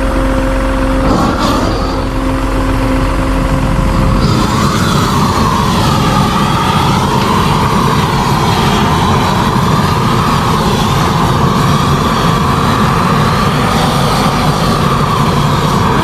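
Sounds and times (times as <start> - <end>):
flamethrower torch roaring: 0.0 - 16.0.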